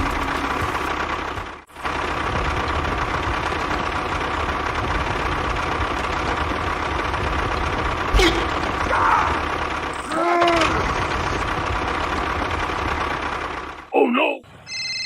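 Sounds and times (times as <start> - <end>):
engine idling chugging: 0.0 - 14.7.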